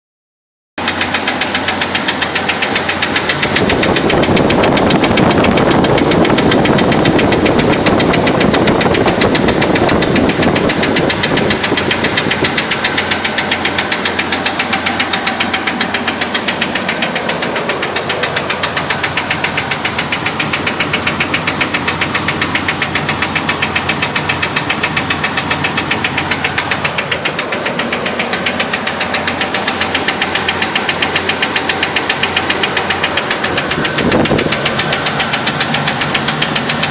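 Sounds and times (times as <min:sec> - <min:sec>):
car engine knocking: 0:00.8 - 0:36.9.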